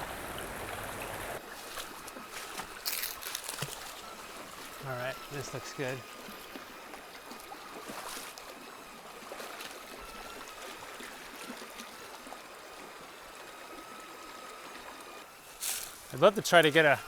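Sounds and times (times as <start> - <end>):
creek trickling over rocks: 0.0 - 17.0.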